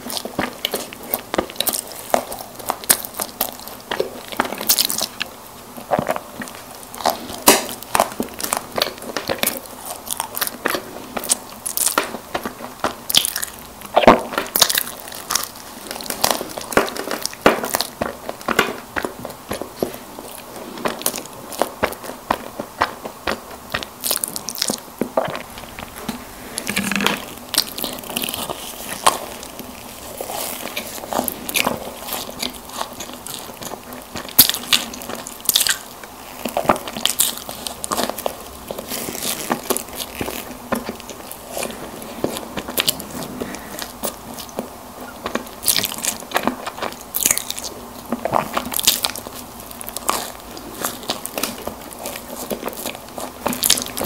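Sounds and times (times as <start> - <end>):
biting and chewing: 0.0 - 54.0.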